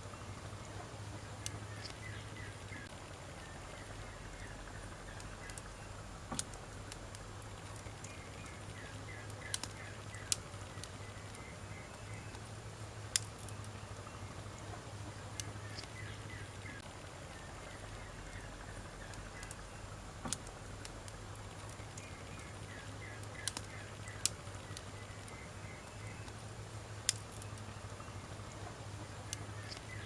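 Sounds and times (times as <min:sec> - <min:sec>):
burning wood popping: 0:00.0 - 0:30.0
campfire crackling: 0:00.0 - 0:30.0.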